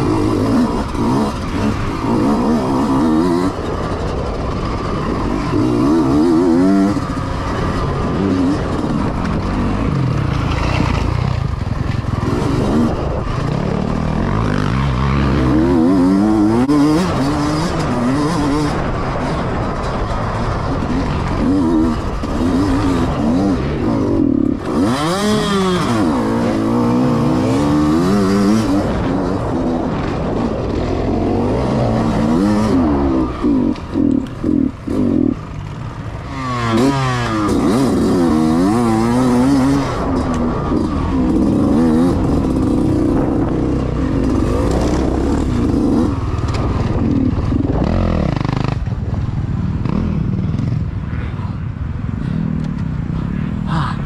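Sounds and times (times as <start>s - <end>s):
dirt bike engine revving: 0.0s - 51.2s.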